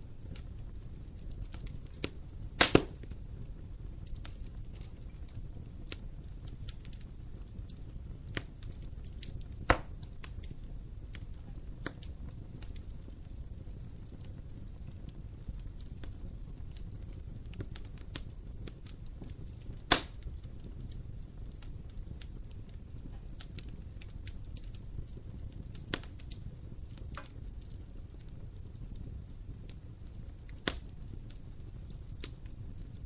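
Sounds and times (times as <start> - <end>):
wood fire crackling: 0.0 - 33.0
loud sharp fire pops: 0.2 - 33.0.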